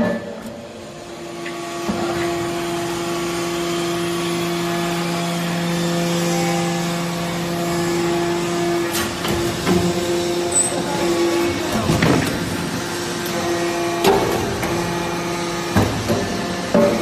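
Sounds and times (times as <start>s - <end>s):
hydraulic press humming: 0.0s - 17.0s.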